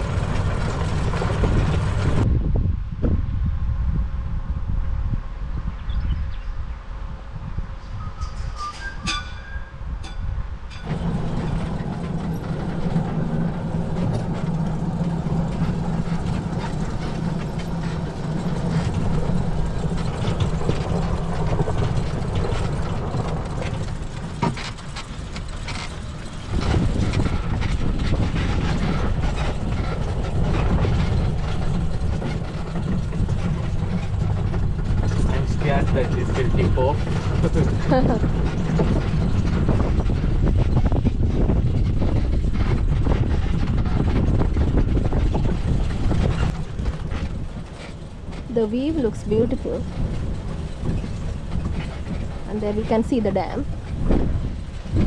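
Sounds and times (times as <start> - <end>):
electric vehicle humming: 0.0 - 2.3, 10.8 - 55.0
rumbling and rattling on dirt track: 0.0 - 55.0.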